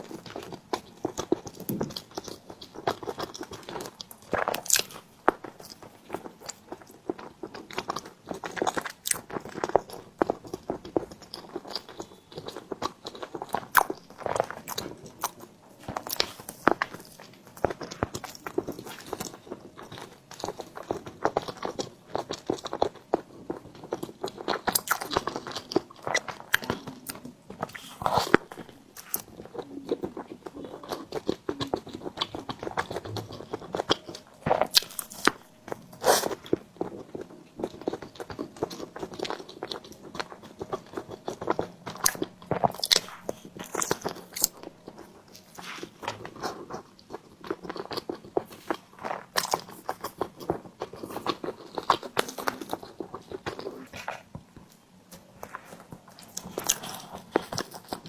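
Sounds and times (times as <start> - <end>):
biting and chewing bread: 0.0 - 58.0.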